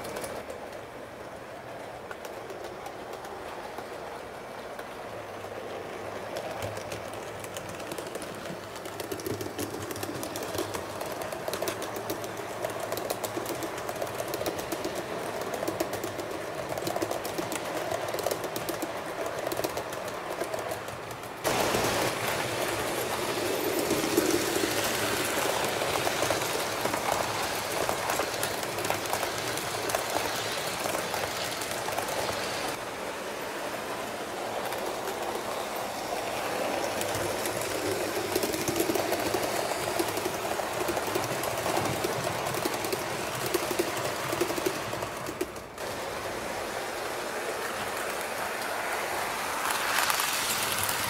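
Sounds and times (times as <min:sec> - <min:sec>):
train rumble: 0:00.0 - 0:51.0
train wheels clicking on track: 0:00.0 - 0:51.0.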